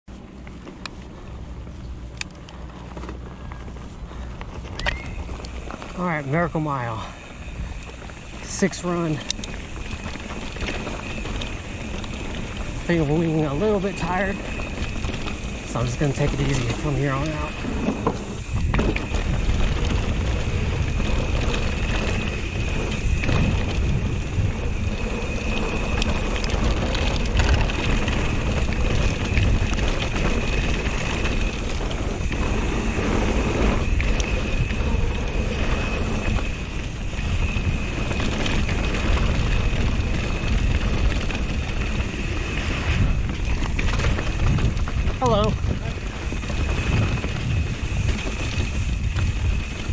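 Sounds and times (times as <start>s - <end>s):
bike rattling: 0.0s - 49.9s
bike tyre noise: 0.0s - 49.9s
steady high whine: 0.0s - 49.9s
wind buffeting microphone: 0.6s - 49.9s.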